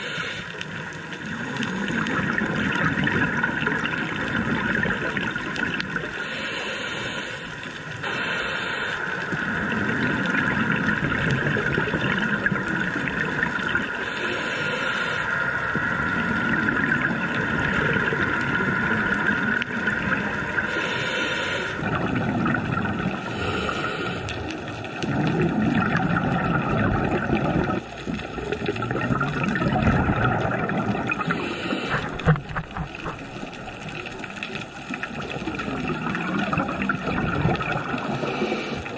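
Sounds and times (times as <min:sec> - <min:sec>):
regulator bubbles gurgling: 0:00.0 - 0:38.9
watery hiss and hum: 0:00.0 - 0:38.9.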